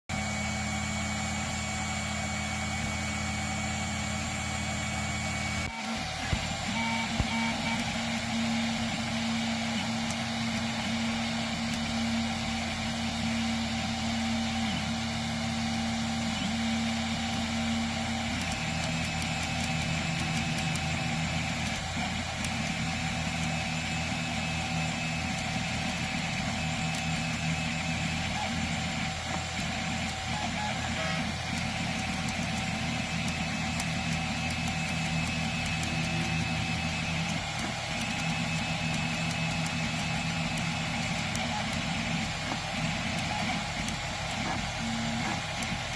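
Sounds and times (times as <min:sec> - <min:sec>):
printer motors and fan hum: 0:00.1 - 0:45.9.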